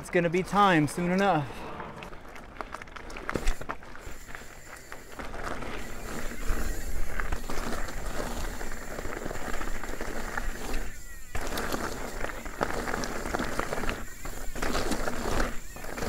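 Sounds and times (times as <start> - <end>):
bike tyres rolling over leaf litter: 0.0 - 16.0.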